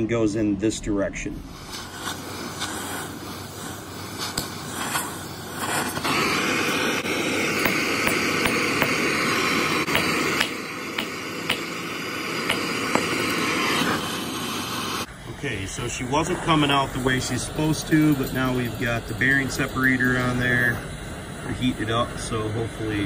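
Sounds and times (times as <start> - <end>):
torch flame hissing: 1.3 - 23.0.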